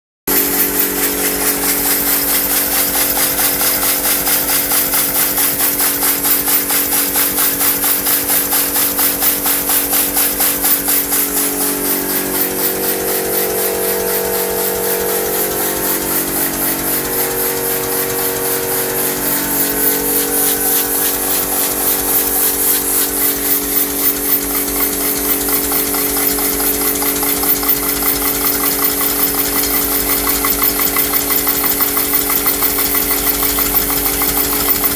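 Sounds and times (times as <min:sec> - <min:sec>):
steady humming tone: 0:00.3 - 0:05.8, 0:09.4 - 0:34.9
air hissing: 0:00.3 - 0:33.5
steam engine chuffing: 0:00.3 - 0:34.9.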